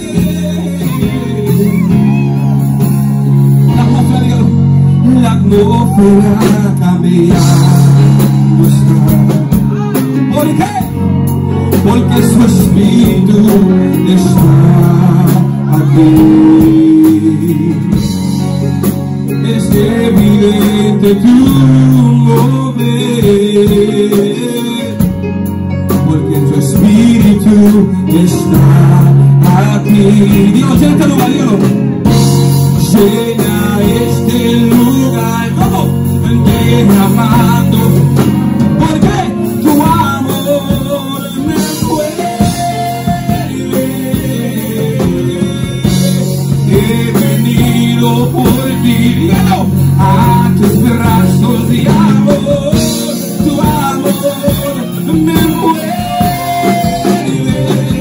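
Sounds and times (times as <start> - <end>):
guitar band music: 0.0 - 58.0
person singing: 0.0 - 58.0.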